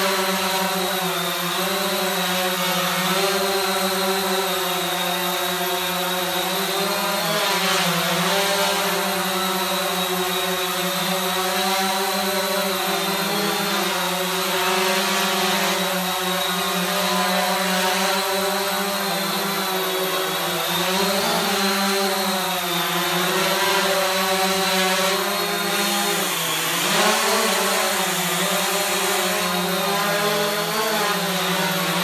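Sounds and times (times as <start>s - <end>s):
quadcopter propellers buzzing: 0.0s - 32.0s.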